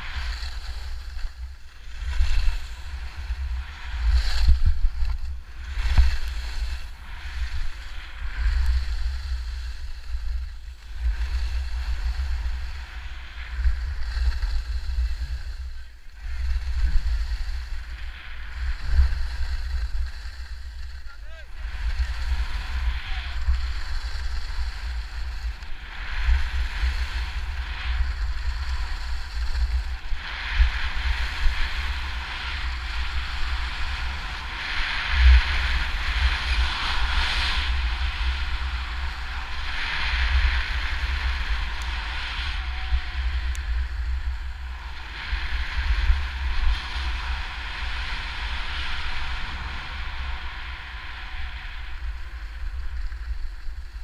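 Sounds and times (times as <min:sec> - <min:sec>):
skis scraping over snow: 0:00.0 - 0:54.0
wind buffeting microphone: 0:00.0 - 0:54.0.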